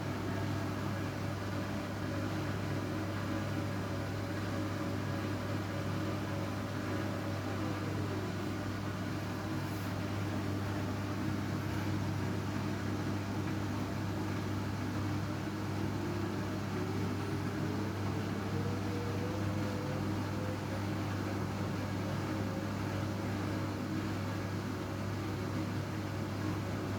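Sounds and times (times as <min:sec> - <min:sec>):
washing machine humming: 0:00.0 - 0:26.9.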